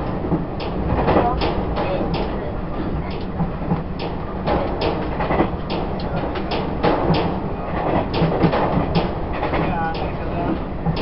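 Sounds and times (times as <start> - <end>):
moving train rumble: 0.0 - 11.0
wheels clicking on track: 0.0 - 11.0.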